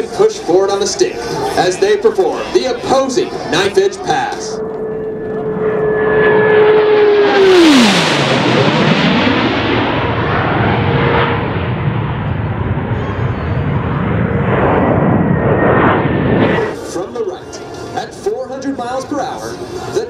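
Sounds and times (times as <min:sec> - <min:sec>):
jet engines roaring past: 0:00.0 - 0:20.0.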